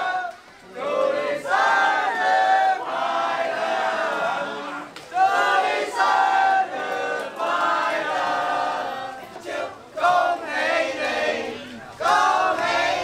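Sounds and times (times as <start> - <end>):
voices chanting and shouting: 0.0 - 13.0.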